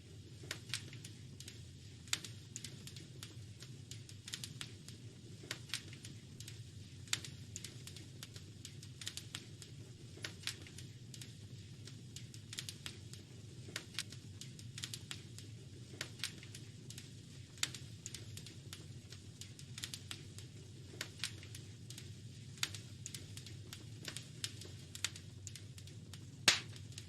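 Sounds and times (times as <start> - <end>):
fire popping and snapping: 0.0 - 27.0
wood fire crackling: 0.0 - 27.0.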